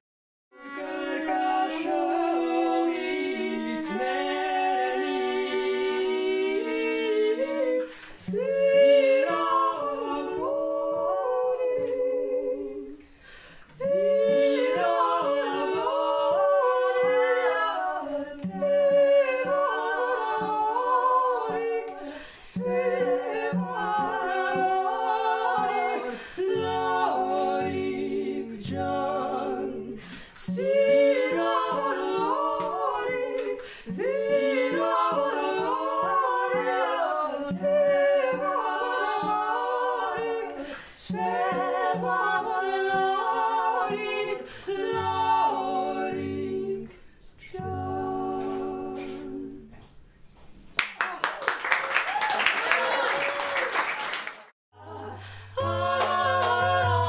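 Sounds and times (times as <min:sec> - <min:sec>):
women singing a cappella: 0:00.6 - 0:50.1, 0:54.8 - 0:57.0.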